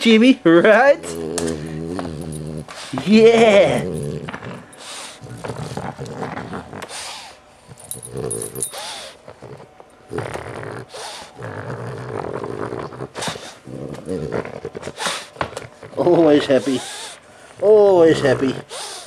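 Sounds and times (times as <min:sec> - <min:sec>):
dog grunting: 0:00.6 - 0:19.0
dog breathing noisily: 0:01.0 - 0:03.1, 0:03.8 - 0:19.0.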